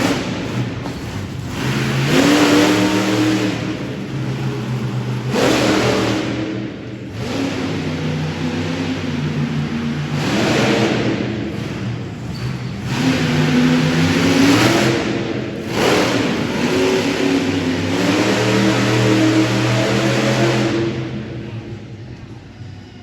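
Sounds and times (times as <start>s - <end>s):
monster truck engine revving: 0.0s - 22.9s.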